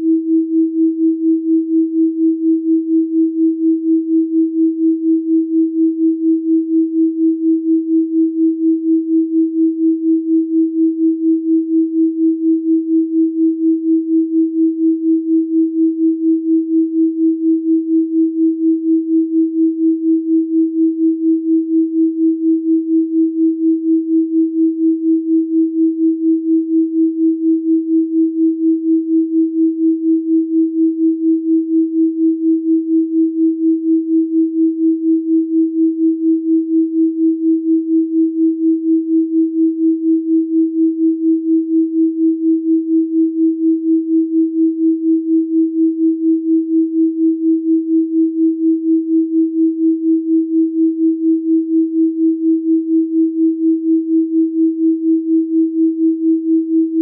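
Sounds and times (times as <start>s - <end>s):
pulsing sine tone: 0.0s - 57.0s.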